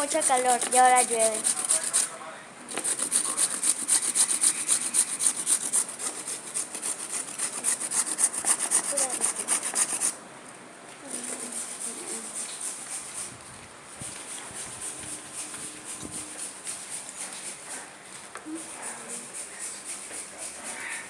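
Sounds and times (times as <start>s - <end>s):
rapid rubbing strokes: 0.0s - 10.2s, 11.1s - 13.4s, 14.0s - 17.9s, 18.5s - 21.0s.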